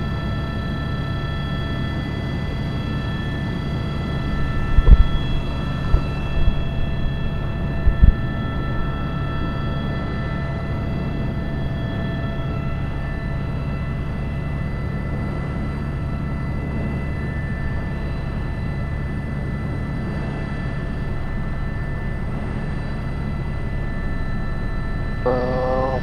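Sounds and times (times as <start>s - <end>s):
helicopter drone with whine: 0.0s - 26.0s.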